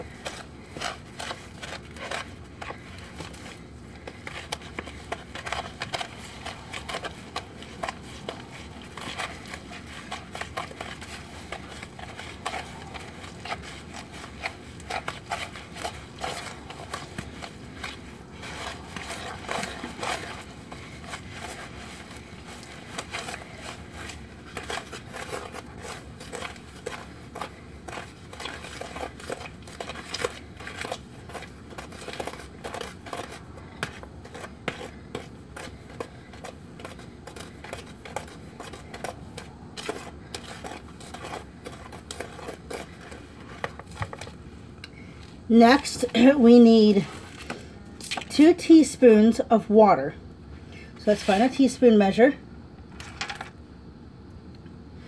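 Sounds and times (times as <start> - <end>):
wooden spoon scraping plastic bowl: 0.0 - 49.5, 51.0 - 52.0.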